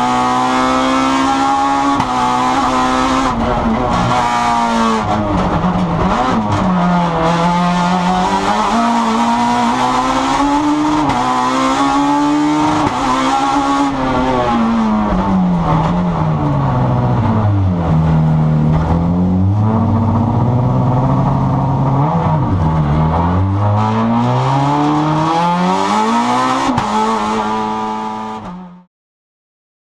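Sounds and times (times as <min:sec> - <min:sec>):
road and cabin noise: 0:00.0 - 0:25.3
rally car engine revving: 0:00.0 - 0:28.9.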